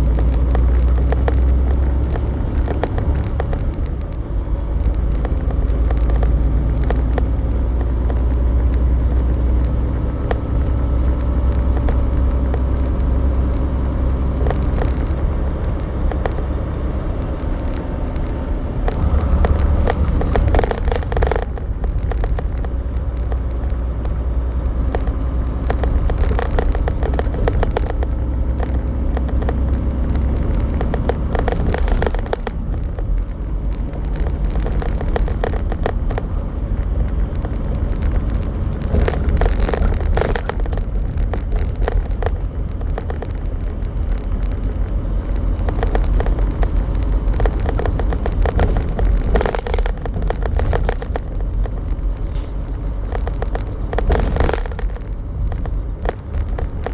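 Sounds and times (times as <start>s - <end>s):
small clicks and rattles: 0.0s - 56.9s
truck engine and road rumble: 0.0s - 56.9s.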